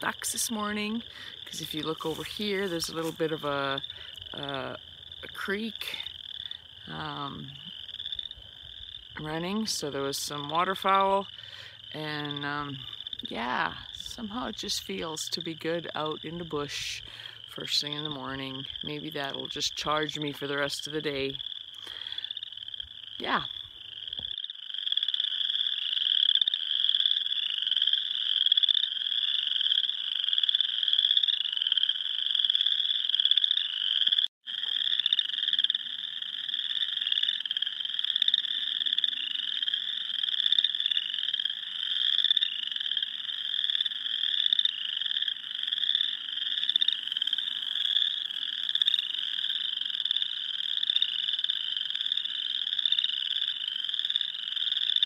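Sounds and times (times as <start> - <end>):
frogs calling in chorus: 0.0 - 55.0.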